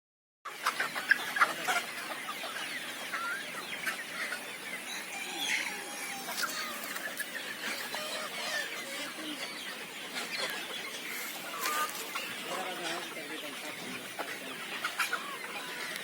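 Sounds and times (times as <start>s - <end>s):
chickens clucking: 0.5s - 16.0s.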